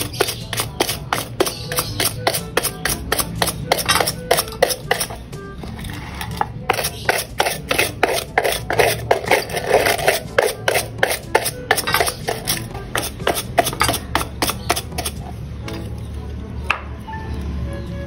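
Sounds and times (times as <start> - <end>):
wire brush scrubbing metal: 0.0 - 15.2.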